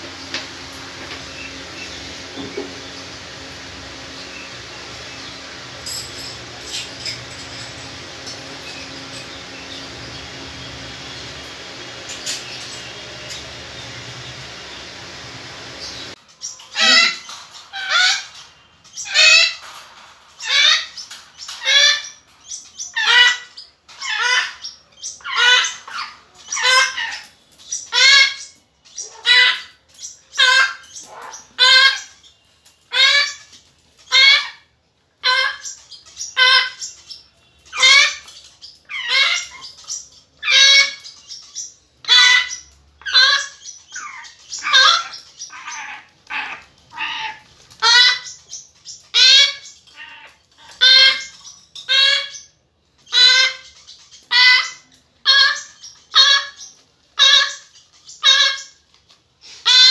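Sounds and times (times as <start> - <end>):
parrots calling: 0.0 - 59.9.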